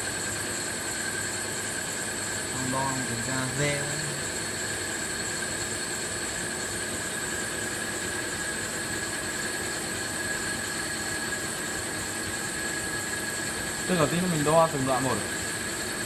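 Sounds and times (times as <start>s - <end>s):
machine running with high whine: 0.0s - 16.0s.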